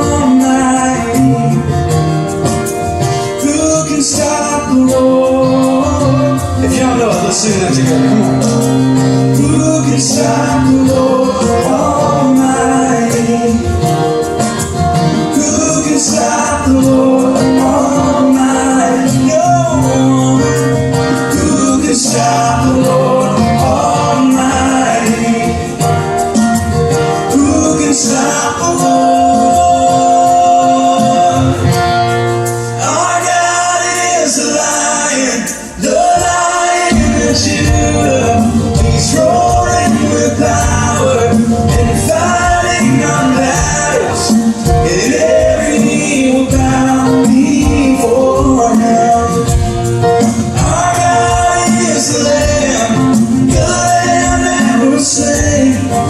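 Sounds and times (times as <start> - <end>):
acoustic instruments with percussion: 0.0 - 56.0
group singing worship music: 0.0 - 56.0.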